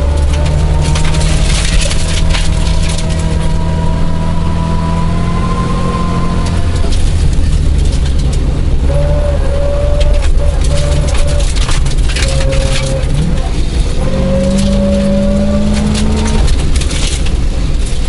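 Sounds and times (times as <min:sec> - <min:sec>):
car engine running hard: 0:00.0 - 0:18.0
gravel crackling under car: 0:00.0 - 0:18.0.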